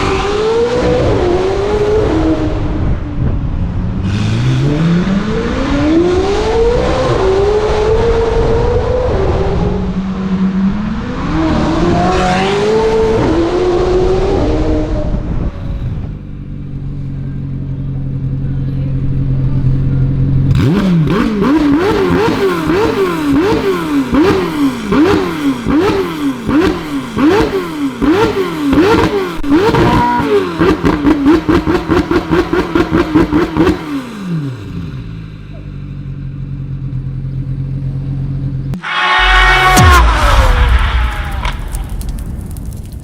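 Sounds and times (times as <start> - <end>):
sports car engine revving: 0.0 - 41.9.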